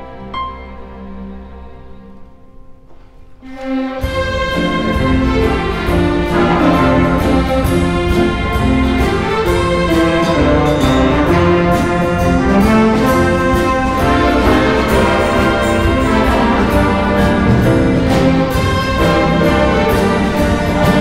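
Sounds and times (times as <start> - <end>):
symphony orchestra playing: 0.0 - 21.0
drum kit strokes: 2.8 - 21.0.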